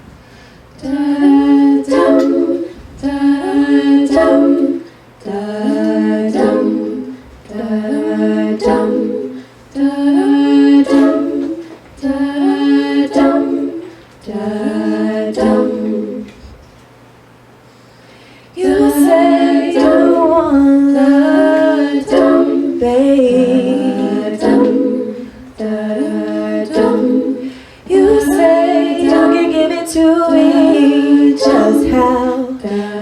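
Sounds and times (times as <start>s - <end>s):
group singing in close harmony: 0.8s - 16.6s, 18.5s - 33.0s.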